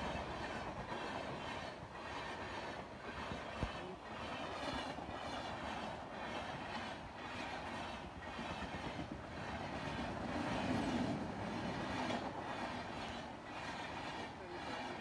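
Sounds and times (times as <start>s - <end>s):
train wheels rumbling on rail: 0.0s - 15.0s
wheels clattering over rail joints: 0.0s - 15.0s.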